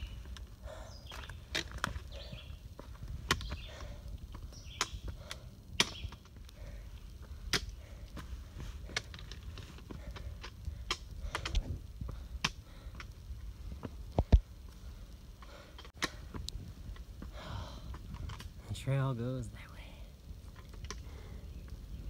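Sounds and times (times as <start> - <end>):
footsteps on rocky trail: 0.0 - 18.9.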